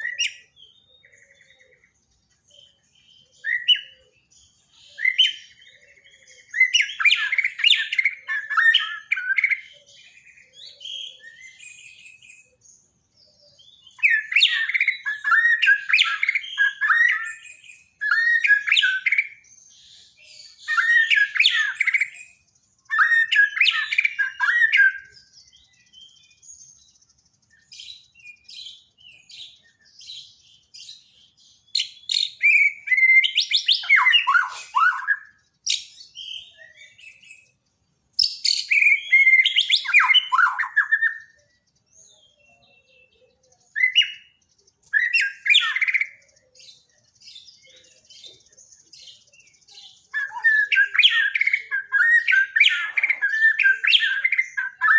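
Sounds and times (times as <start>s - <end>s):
bird singing: 0.0s - 54.9s.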